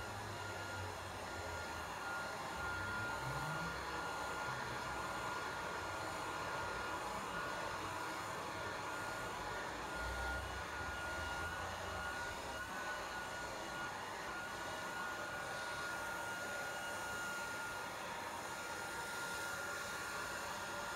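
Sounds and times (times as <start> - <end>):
hair dryer running: 0.0 - 20.9.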